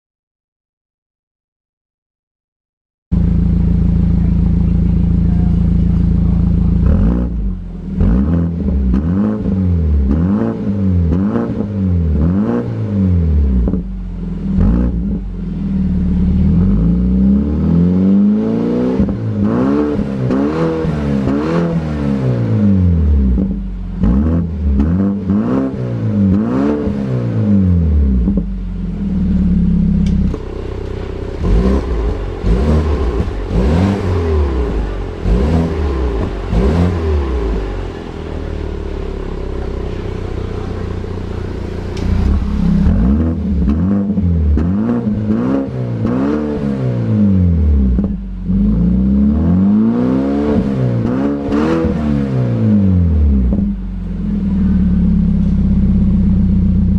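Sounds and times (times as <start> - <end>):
car engine revving: 3.1 - 56.9.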